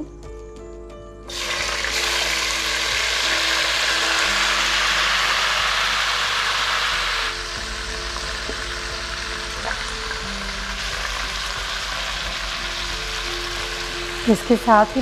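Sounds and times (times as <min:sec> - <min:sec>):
chicken sizzling in hot oil: 0:01.3 - 0:15.0.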